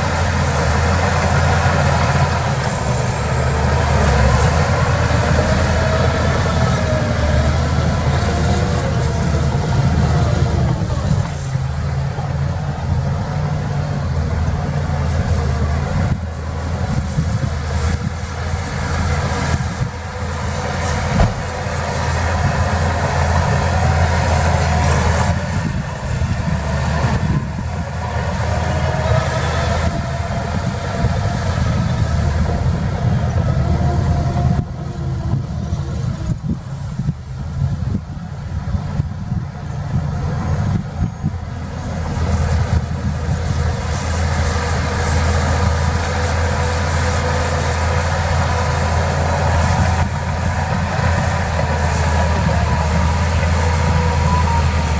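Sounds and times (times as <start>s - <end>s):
diesel machinery engine rumble: 0.0s - 54.9s.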